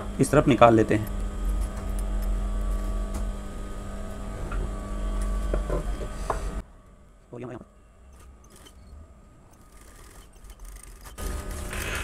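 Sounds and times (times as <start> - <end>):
sewing machine motor hum: 0.0 - 6.6, 8.2 - 12.0.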